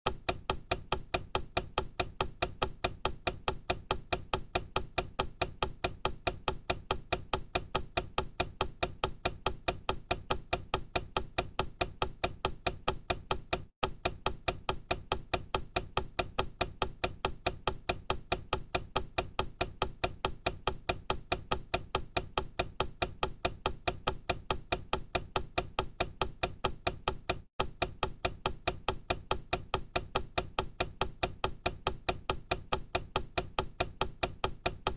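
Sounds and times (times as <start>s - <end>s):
clock ticking: 0.0s - 34.9s.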